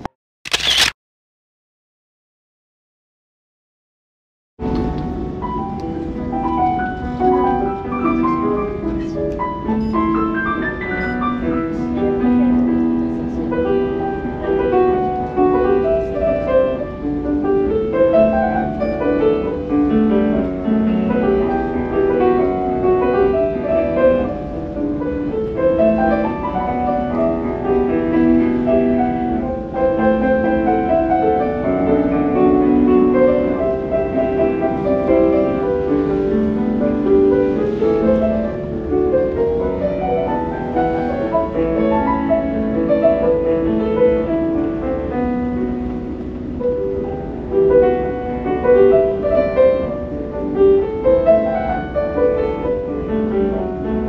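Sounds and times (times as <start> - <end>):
solo piano: 4.6 - 54.0.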